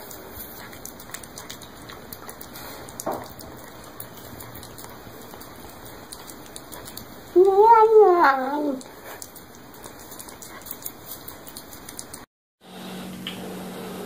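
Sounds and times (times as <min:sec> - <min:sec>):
cat chewing and licking: 0:00.0 - 0:12.3.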